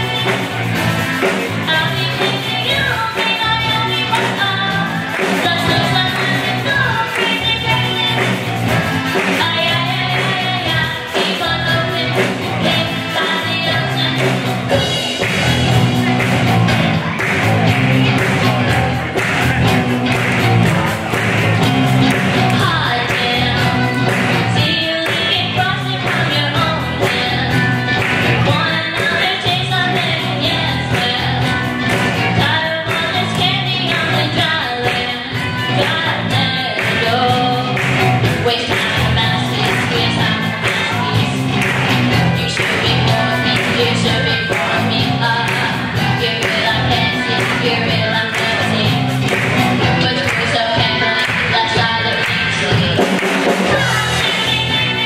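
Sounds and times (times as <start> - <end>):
drum kit beat: 0.0 - 55.0
electric guitars: 0.0 - 55.0
live rock band playing: 0.0 - 55.0
girl singing: 1.4 - 16.1, 22.0 - 55.0.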